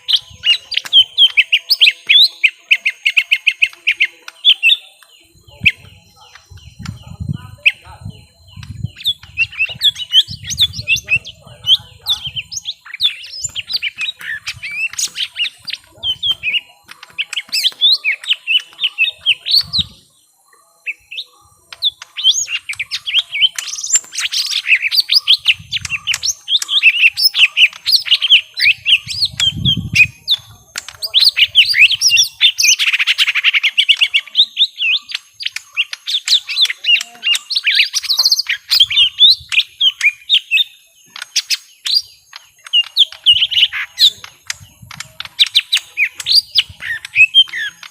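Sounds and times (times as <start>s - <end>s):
birds chattering and whistling: 0.0s - 47.9s.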